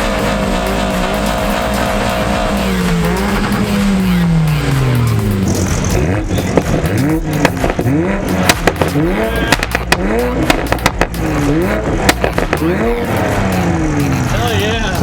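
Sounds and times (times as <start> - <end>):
exhaust cracks and pops: 0.0 - 4.0, 4.8 - 13.5
car engine revving: 0.0 - 15.0.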